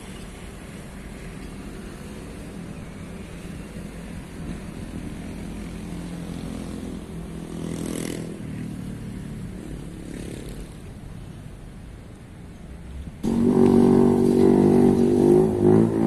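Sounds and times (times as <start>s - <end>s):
distant diesel locomotive drone: 0.0s - 16.0s.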